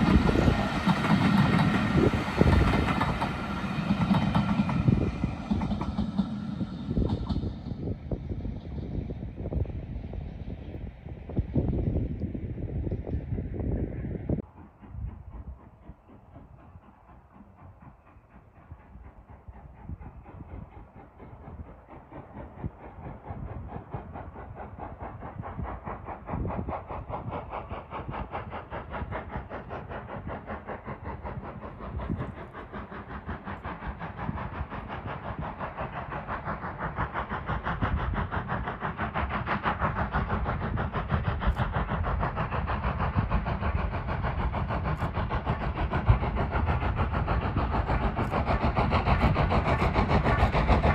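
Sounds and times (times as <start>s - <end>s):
steam locomotive approaching: 0.0s - 50.9s.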